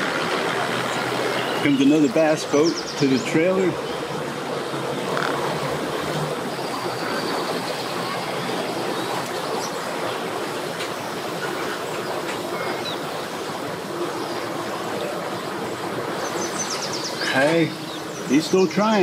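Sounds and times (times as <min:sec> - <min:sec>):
boat engine running: 0:00.0 - 0:19.0
propeller churning water: 0:00.0 - 0:19.0.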